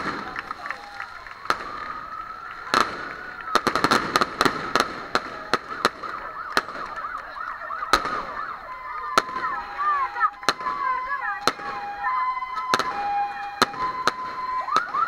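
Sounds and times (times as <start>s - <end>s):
crackling reports: 0.0s - 15.0s
fireworks bangs: 0.0s - 15.0s.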